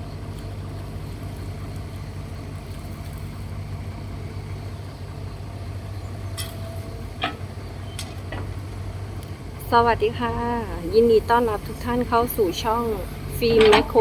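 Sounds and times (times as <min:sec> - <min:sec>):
excavator diesel engine idling: 0:00.0 - 0:14.0.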